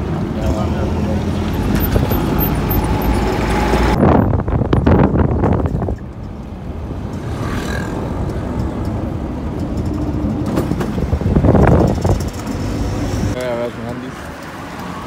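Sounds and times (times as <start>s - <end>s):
auto-rickshaw engine: 0.0s - 15.0s
road noise: 0.0s - 15.0s.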